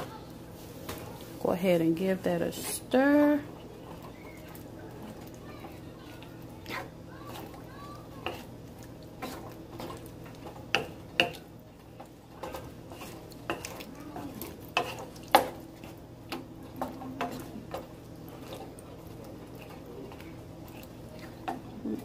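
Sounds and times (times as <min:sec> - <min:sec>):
spoon stirring in a pan: 0:00.0 - 0:22.0.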